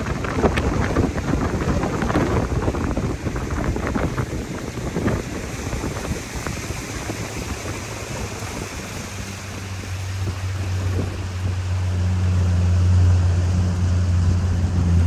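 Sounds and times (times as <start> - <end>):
boat engine hum: 0.0 - 15.0
water slapping against hull: 0.0 - 15.0
water splashes: 0.0 - 15.0
wind buffeting microphone: 0.0 - 15.0.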